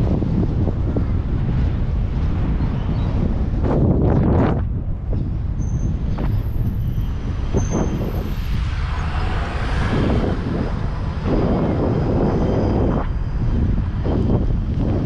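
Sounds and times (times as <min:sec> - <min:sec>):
vehicle road noise: 0:00.0 - 0:15.0
wind rumbling on microphone: 0:00.0 - 0:15.0.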